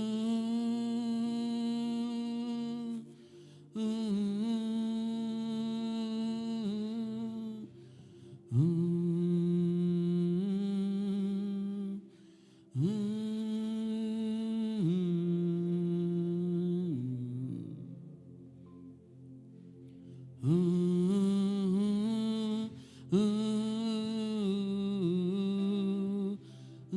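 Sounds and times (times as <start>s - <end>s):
humming worship music: 0.0s - 26.9s.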